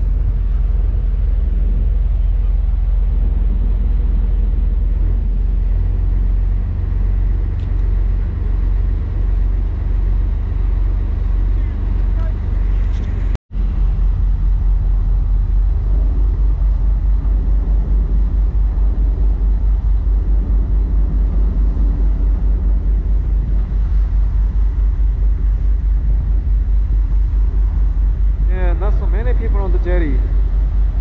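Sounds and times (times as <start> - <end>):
boat engine throbbing drone: 0.0 - 31.0.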